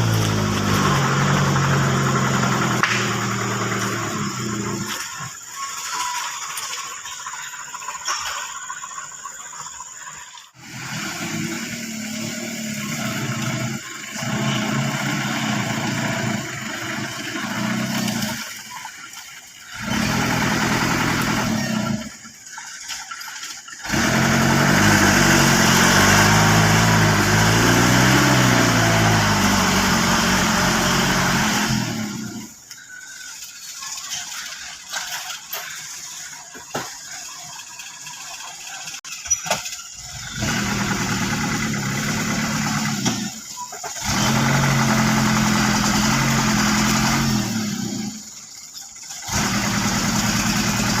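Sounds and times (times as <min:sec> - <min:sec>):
truck engine revving: 0:00.0 - 0:05.7, 0:10.6 - 0:39.1, 0:39.8 - 0:51.0.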